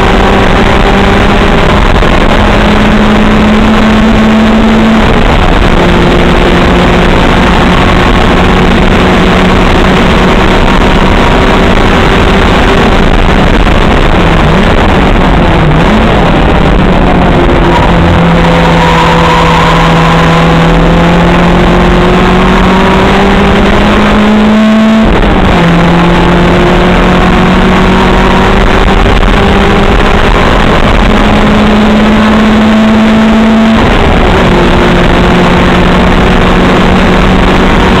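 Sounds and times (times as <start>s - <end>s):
race car engine accelerating: 0.0s - 38.0s
wind and road noise: 0.0s - 38.0s.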